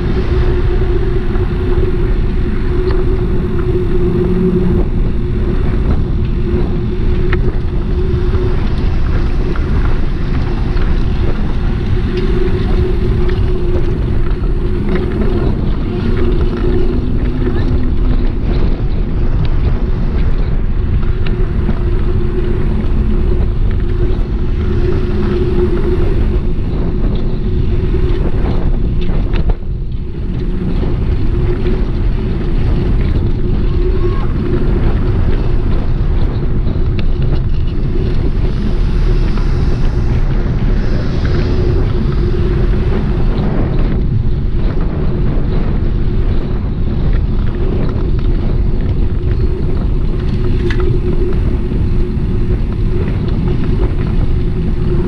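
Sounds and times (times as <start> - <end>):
hum: 0.0 - 55.0
road noise: 0.0 - 55.0
wind rushing over microphone: 0.0 - 55.0.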